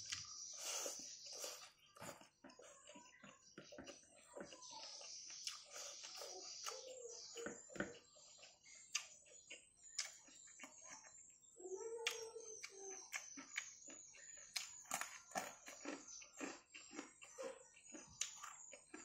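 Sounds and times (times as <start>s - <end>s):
crunching and chewing: 0.0s - 19.0s
fingers clicking in food: 2.5s - 11.0s, 12.0s - 19.0s.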